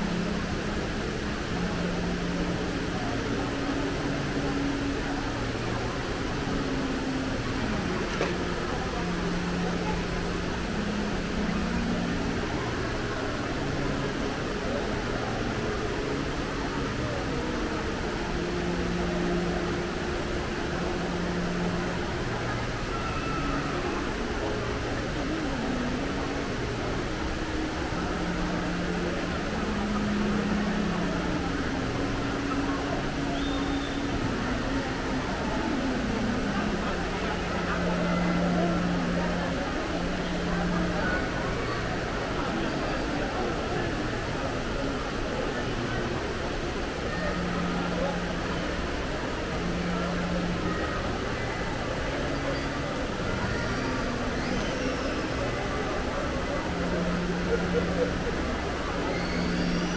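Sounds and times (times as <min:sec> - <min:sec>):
hubbub of crowd: 0:00.0 - 0:59.9
indoor waterfall rushing: 0:00.0 - 0:59.9
murmur of distant voices: 0:00.0 - 0:59.9.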